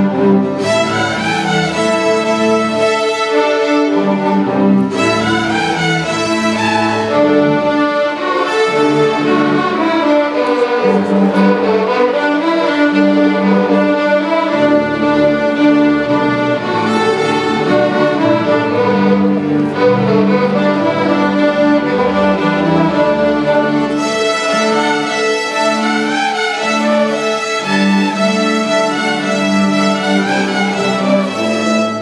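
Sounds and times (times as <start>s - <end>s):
string orchestra playing chords: 0.0s - 32.0s.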